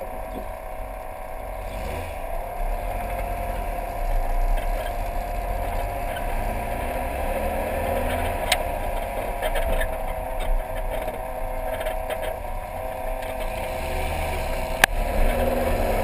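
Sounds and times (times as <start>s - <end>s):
car engine driving: 0.0s - 16.0s.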